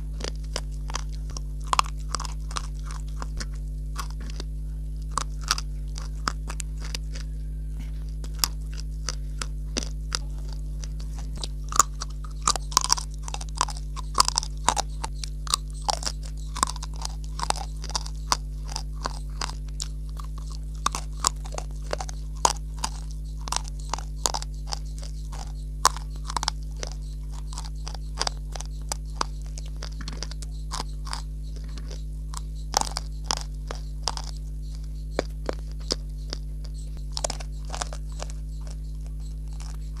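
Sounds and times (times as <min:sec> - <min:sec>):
crunchy chewing: 0:00.0 - 0:40.0
steady low hum: 0:00.0 - 0:40.0.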